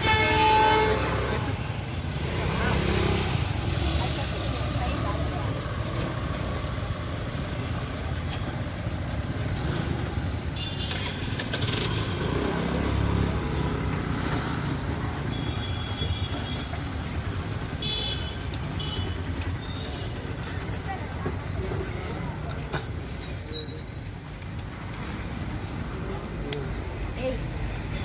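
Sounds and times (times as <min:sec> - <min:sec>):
vehicle engines rumbling: 0:00.0 - 0:28.0.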